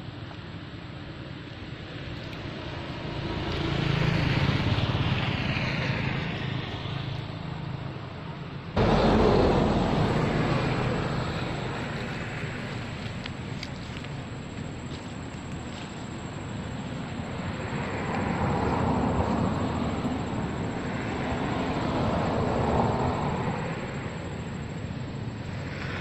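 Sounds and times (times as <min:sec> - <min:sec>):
passing vehicle engine: 0:02.0 - 0:26.0.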